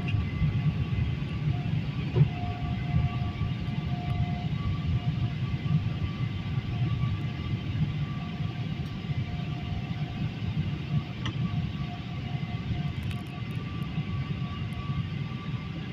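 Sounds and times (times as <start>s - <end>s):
jet engines and rushing air: 0.0s - 15.9s.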